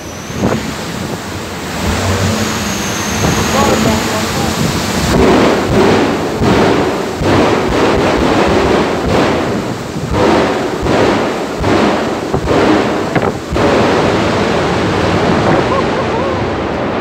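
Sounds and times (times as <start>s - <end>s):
jet engine rumbling: 0.0s - 17.0s.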